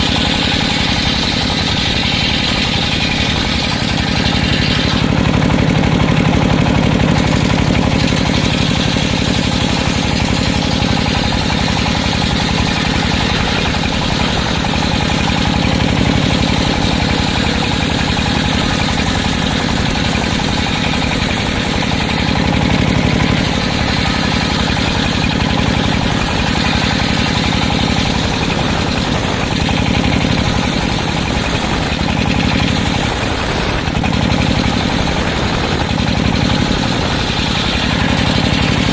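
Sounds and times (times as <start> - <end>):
circular saw machine running: 0.0 - 38.9.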